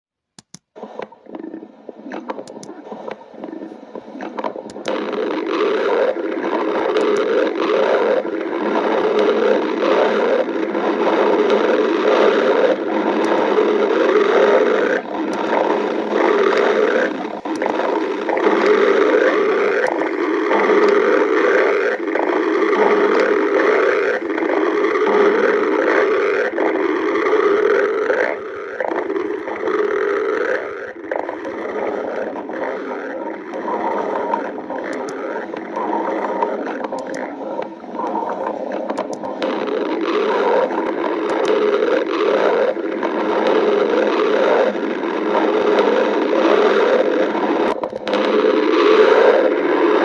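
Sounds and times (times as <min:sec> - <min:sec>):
stomach growling and gurgling: 0:00.4 - 0:50.0.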